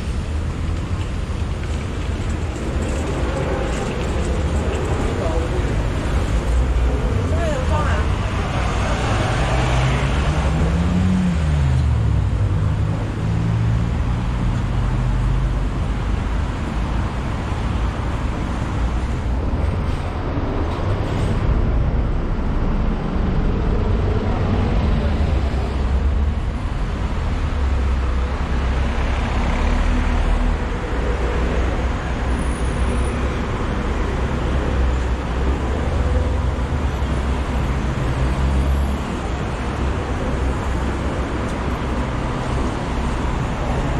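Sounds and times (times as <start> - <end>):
rumble of cars and buses: 0.0 - 43.9.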